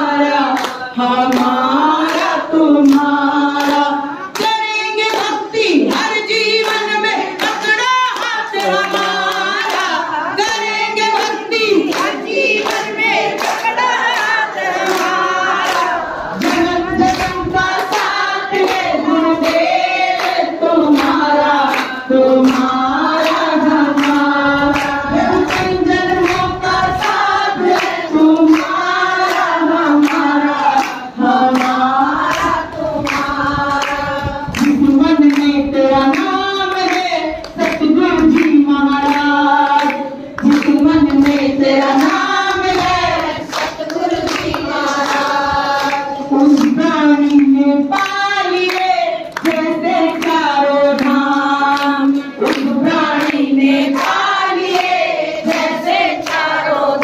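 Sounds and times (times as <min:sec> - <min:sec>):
congregation singing devotional song: 0:00.0 - 0:57.0
hand claps: 0:00.0 - 0:57.0.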